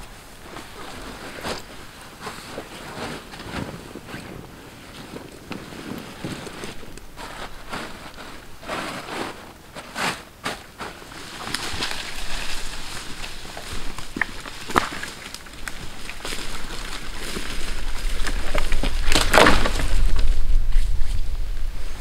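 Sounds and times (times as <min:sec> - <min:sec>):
tent fabric rustling: 0:00.0 - 0:22.0.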